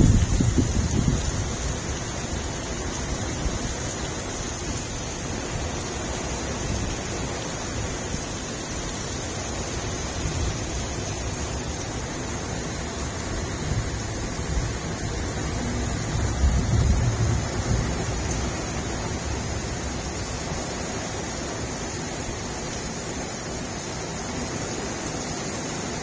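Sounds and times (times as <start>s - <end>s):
heavy rain pouring: 0.0s - 26.0s
low rumble of wind: 0.0s - 26.0s.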